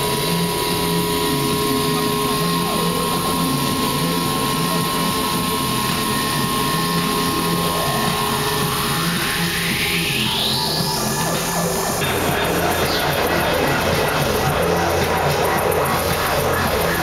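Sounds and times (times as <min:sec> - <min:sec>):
electronic falling sweep: 0:00.0 - 0:17.0
electronic rising sweep: 0:00.0 - 0:17.0
two steady electronic tones: 0:00.0 - 0:17.0.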